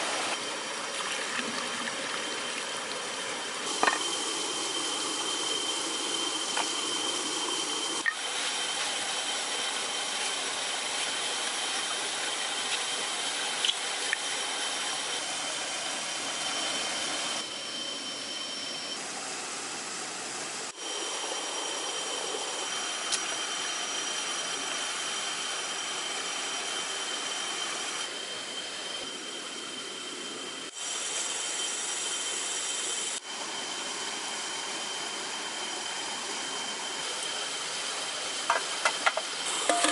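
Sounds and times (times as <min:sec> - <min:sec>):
thin high whine: 0:01.8 - 0:39.9.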